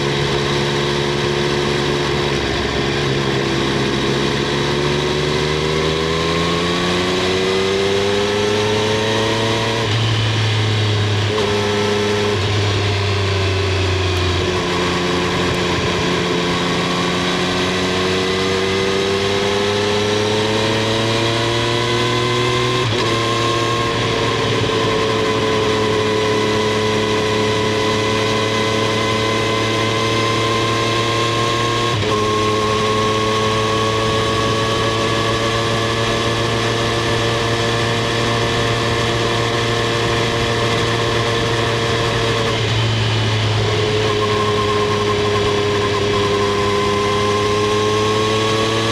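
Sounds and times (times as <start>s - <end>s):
motorcycle engine and exhaust: 0.0s - 48.9s.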